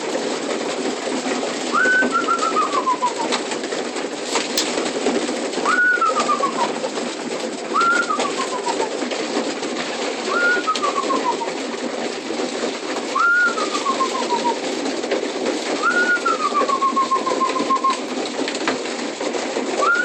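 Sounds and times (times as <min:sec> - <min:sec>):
pigeons cooing: 0:01.6 - 0:03.7, 0:04.3 - 0:19.0, 0:19.7 - 0:20.0.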